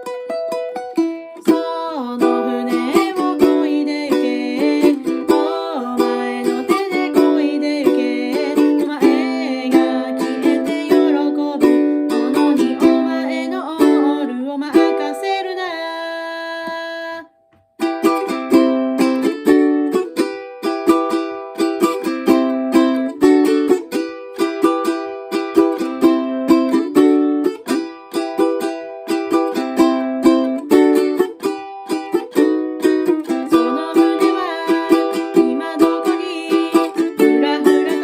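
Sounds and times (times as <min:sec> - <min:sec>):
ukulele strumming: 0:00.0 - 0:38.0.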